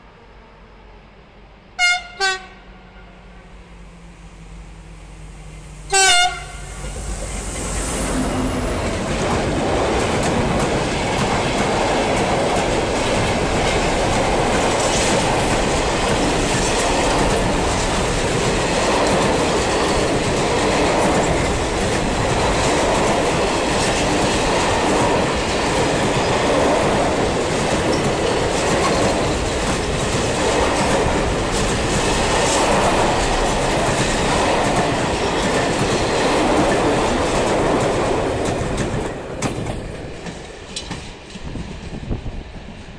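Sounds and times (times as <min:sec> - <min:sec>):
diesel locomotive passing: 0:00.0 - 0:42.9.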